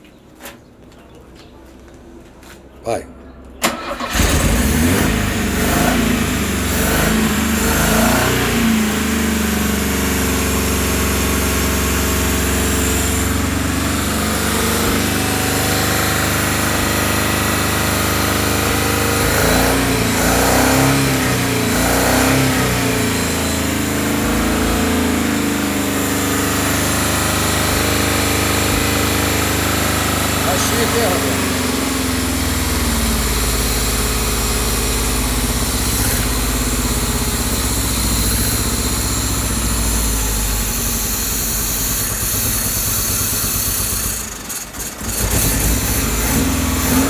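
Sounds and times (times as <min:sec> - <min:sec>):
car engine idling and revving: 0:03.6 - 0:47.0.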